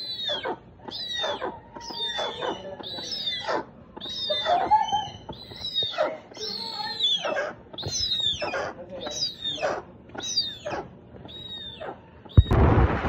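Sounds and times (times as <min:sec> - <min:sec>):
chicks screeching: 0:00.0 - 0:12.6.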